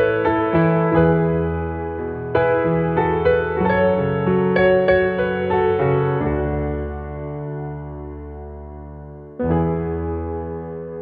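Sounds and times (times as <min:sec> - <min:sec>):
soft piano melody: 0:00.0 - 0:11.0.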